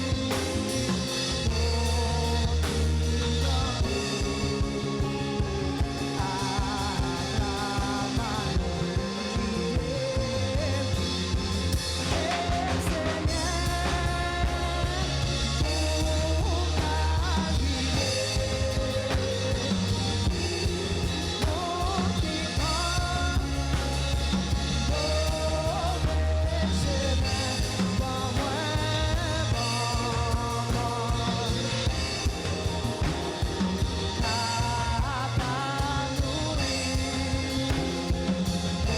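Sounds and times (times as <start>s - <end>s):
voices singing a hymn: 0.0s - 38.9s
worship band playing: 0.0s - 38.9s.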